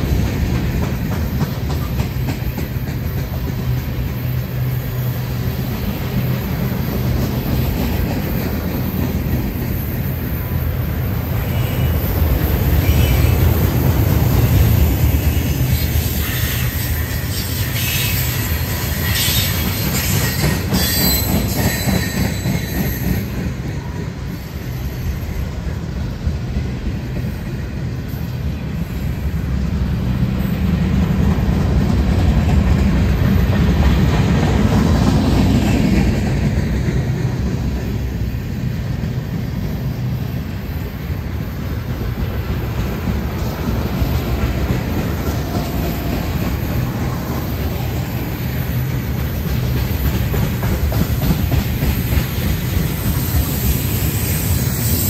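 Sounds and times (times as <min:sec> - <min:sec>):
train wheels rumbling and clacking: 0:00.0 - 0:55.0.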